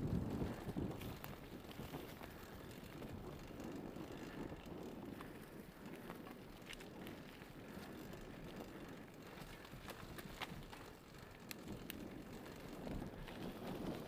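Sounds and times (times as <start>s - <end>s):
bike clicks and rattles: 0.0s - 14.0s.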